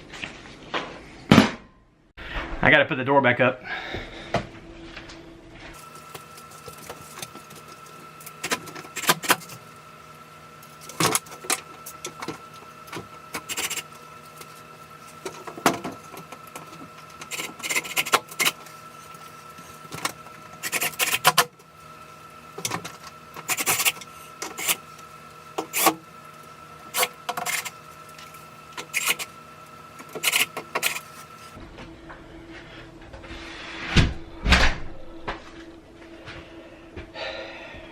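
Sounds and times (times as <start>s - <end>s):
steady hum: 0.0s - 37.9s.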